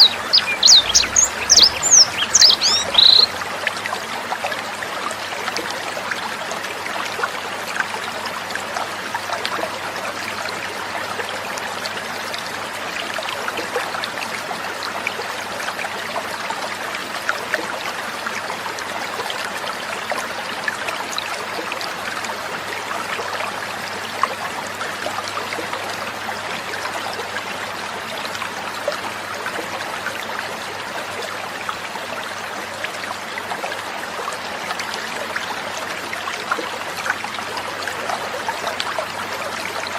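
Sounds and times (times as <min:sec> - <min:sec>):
water gurgling and trickling: 0:00.0 - 0:17.2, 0:17.8 - 0:39.9
small water splashes: 0:00.0 - 0:39.9.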